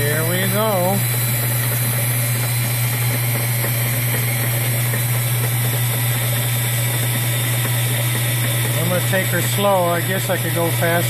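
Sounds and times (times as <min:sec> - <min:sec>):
lathe and die grinder humming: 0:00.0 - 0:11.0.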